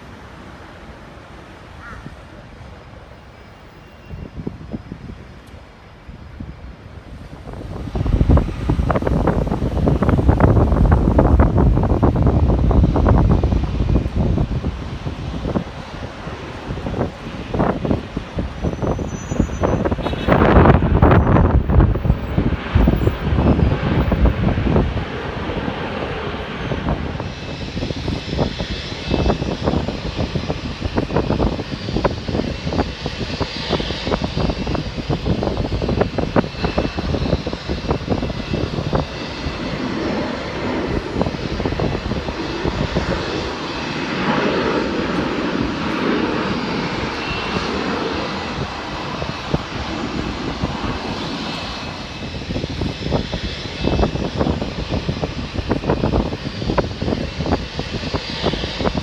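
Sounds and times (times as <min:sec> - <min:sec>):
jet engines rumbling: 0:00.0 - 0:59.0
wind buffeting microphone: 0:04.0 - 0:59.0.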